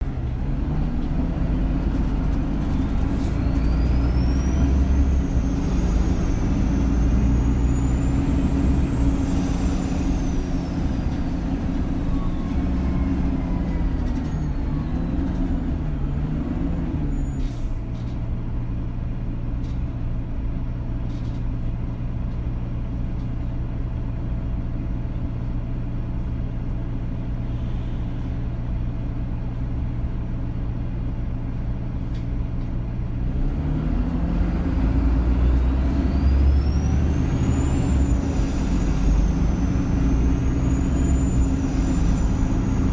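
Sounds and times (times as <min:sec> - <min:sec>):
bus engine with high whine: 0:00.0 - 0:42.9.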